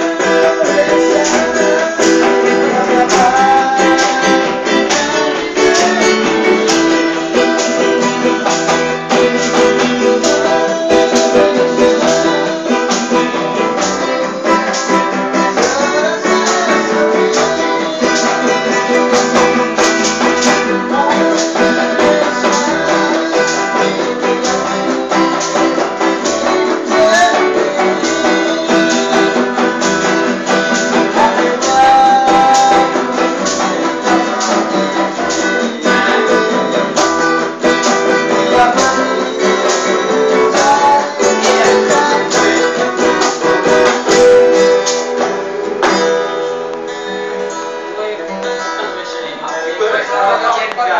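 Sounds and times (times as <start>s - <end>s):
instrumental band music with guitars: 0.0s - 50.9s.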